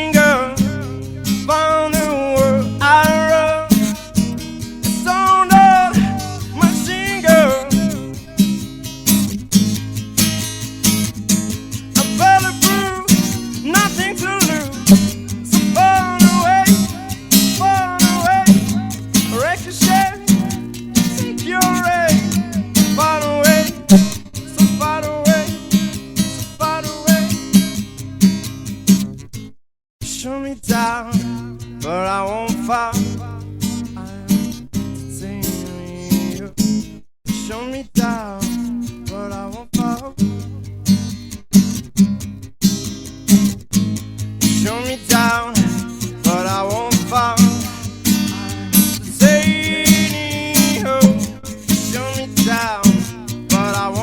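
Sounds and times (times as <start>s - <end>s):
acoustic guitar melody: 0.0s - 54.0s.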